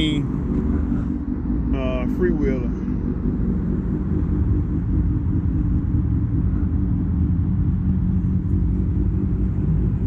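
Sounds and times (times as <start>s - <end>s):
motorcycle engines idling: 0.0s - 10.0s.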